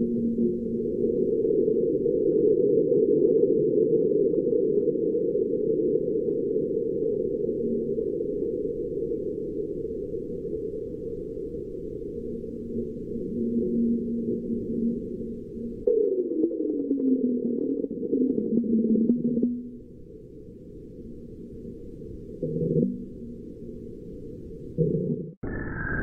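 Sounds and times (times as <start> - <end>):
faint scattered ticks: 0.0 - 25.2.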